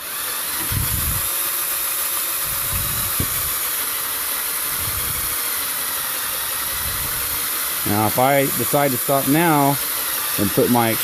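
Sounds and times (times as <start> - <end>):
electric drill cutting metal: 0.0 - 11.0.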